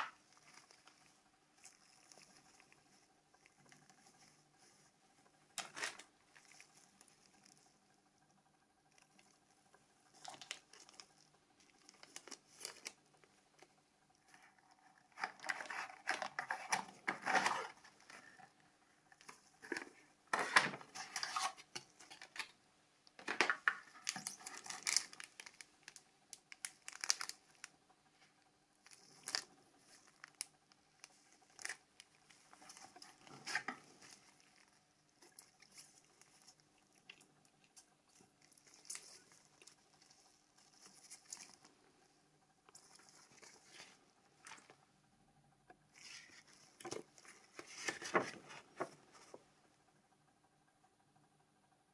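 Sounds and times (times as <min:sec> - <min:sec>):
plastic wrapping crinkling: 0:00.0 - 0:08.0, 0:08.8 - 0:41.8, 0:42.6 - 0:44.8, 0:45.9 - 0:49.4.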